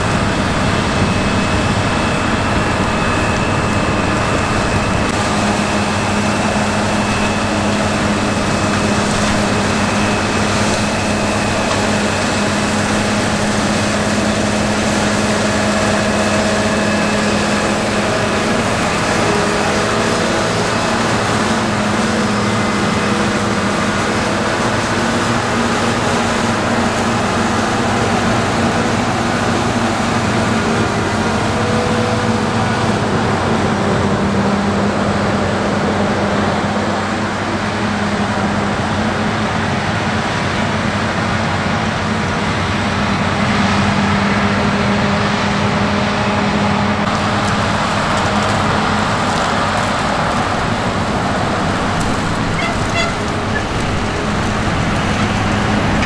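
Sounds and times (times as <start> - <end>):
broad rushing noise: 0.0 - 56.0
diesel engine drone: 0.0 - 56.0.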